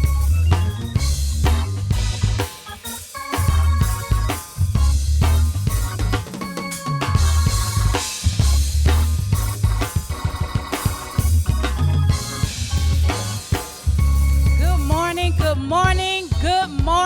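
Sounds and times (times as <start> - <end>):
heavy bass: 0.0 - 2.6, 3.4 - 6.2, 7.1 - 17.0
drum kit: 0.0 - 17.0
organ: 0.0 - 17.0.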